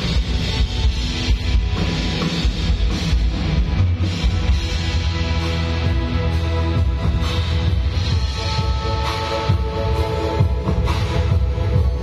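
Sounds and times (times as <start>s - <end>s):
drum kit: 0.0s - 12.0s
guitar: 0.0s - 12.0s
heavy bass: 0.0s - 12.0s.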